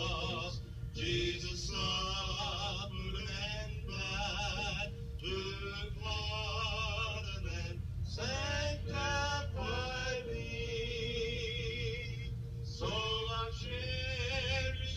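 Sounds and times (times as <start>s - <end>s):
man singing with vibrato: 0.0s - 14.9s
steady low hum: 0.0s - 14.9s.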